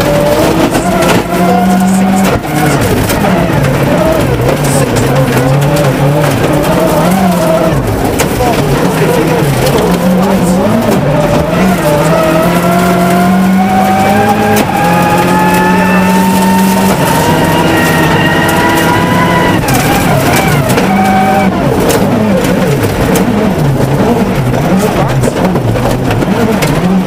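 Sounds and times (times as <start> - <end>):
stones ticking against car: 0.0 - 14.8, 16.2 - 27.0
rally car engine revving: 0.0 - 27.0.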